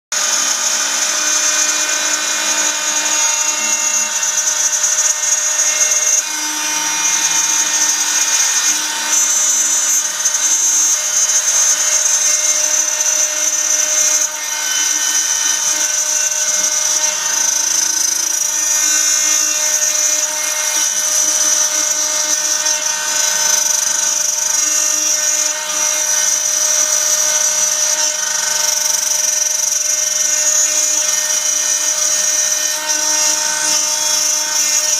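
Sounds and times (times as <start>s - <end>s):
router spindle whine: 0.2s - 34.9s.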